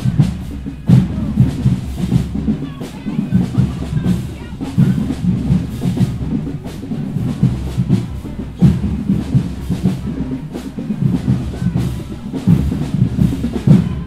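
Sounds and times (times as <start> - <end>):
drumline playing a cadence: 0.0 - 14.0.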